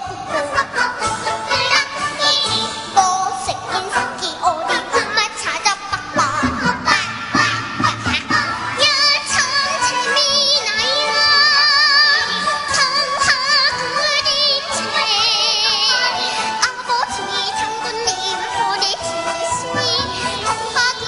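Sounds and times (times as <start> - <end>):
children's choir singing: 0.0 - 21.0
violin accompaniment: 0.0 - 21.0.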